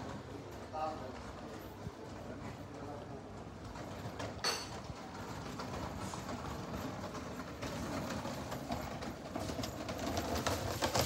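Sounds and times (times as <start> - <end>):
suitcase wheels rattling on stone: 0.0 - 11.0.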